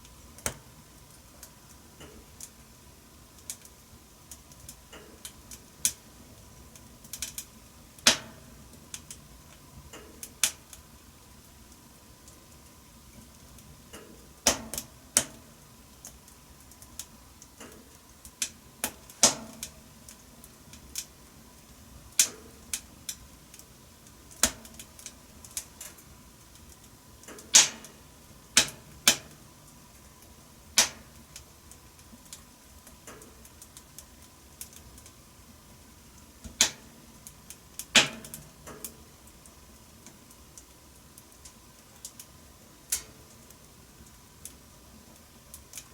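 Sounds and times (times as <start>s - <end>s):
faint hiss: 0.0s - 45.9s
wood fire crackling: 0.0s - 45.9s.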